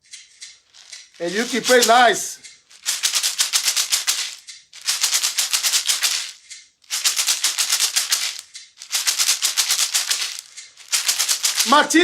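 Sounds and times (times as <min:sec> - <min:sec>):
plastic shaker rattling: 0:00.4 - 0:12.0.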